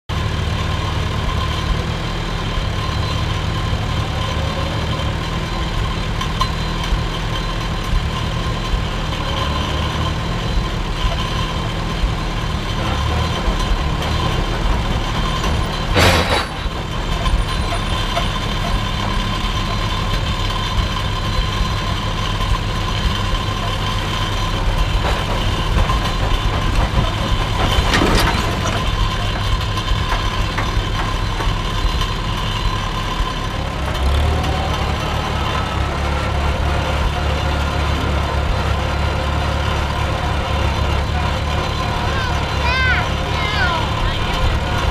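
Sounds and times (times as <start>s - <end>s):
tractor engine running: 0.1s - 44.9s.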